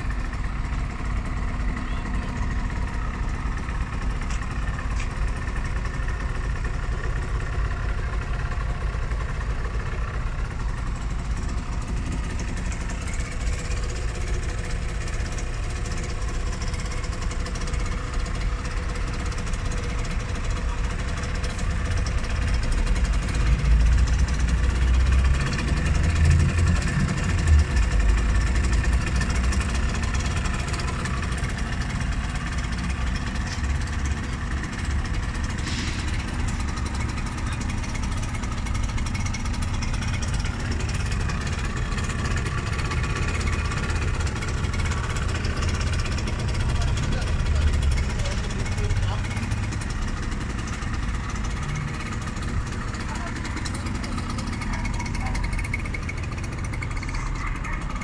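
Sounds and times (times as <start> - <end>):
two-stroke engine idling: 0.0 - 58.0.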